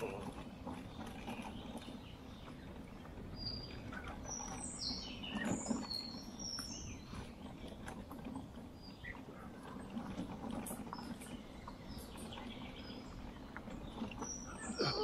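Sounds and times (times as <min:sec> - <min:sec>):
birds chirping and whistling: 0:00.0 - 0:15.0
rumble of riding on gravel: 0:00.0 - 0:15.0.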